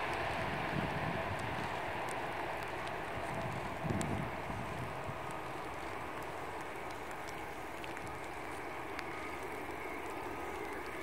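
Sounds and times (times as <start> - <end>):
jet engines rushing with whine: 0.0 - 11.0.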